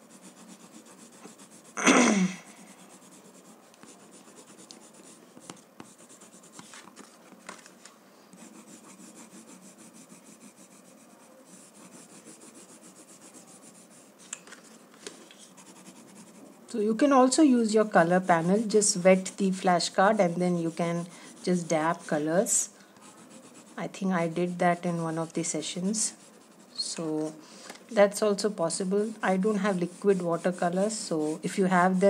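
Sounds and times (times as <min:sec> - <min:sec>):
pencil scratching on paper: 0:00.0 - 0:07.0, 0:08.4 - 0:14.8, 0:15.4 - 0:27.4, 0:28.3 - 0:32.0.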